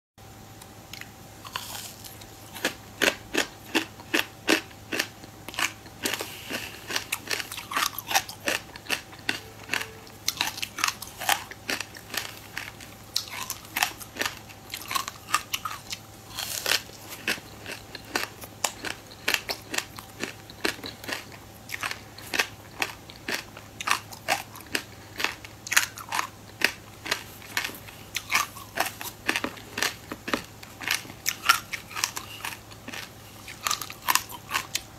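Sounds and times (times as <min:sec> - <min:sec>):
crunching raw grains: 0:00.6 - 0:34.9.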